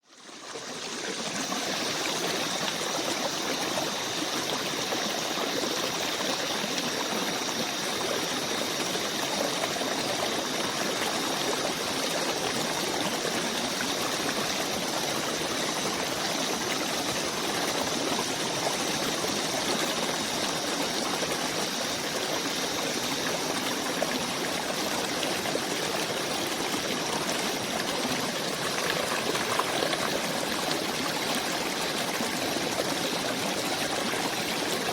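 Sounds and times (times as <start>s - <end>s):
stream flowing: 0.1s - 34.9s.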